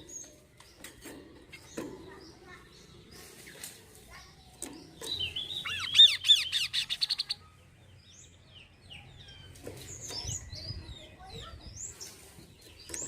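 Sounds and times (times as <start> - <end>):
bird singing high chirps: 0.0 - 13.0.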